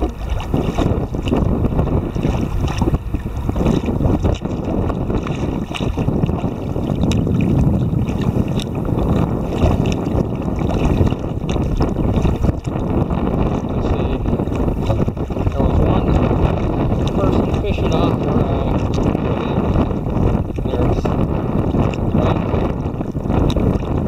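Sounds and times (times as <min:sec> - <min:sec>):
water slapping against hull: 0:00.0 - 0:24.0
wind buffeting microphone: 0:00.0 - 0:24.0.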